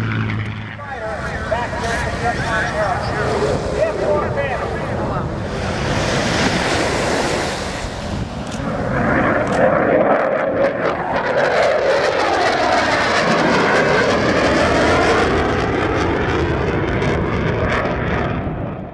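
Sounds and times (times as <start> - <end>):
jet flyby with crackling roar: 0.0 - 18.9.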